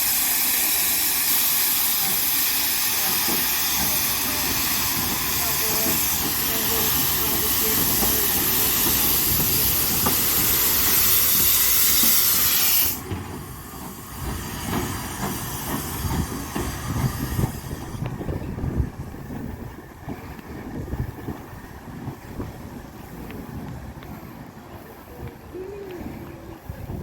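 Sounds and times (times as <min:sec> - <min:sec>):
low train rumble: 0:00.0 - 0:27.0
steam locomotive hissing steam: 0:00.0 - 0:27.0
train knocks: 0:01.4 - 0:24.6.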